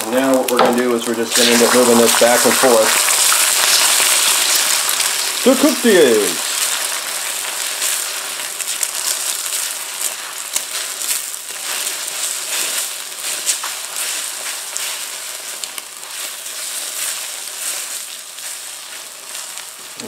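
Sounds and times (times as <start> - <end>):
eggs sizzling in oil: 0.0 - 20.0.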